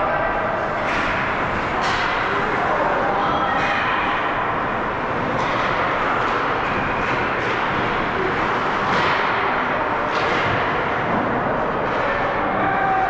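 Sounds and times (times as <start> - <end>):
ice hockey arena din: 0.0 - 13.0.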